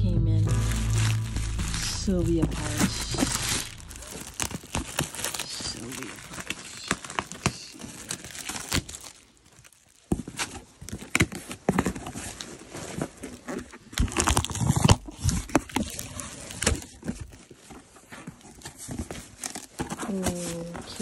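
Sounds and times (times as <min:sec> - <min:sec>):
plastic wrap crinkling and tearing: 0:00.4 - 0:21.0.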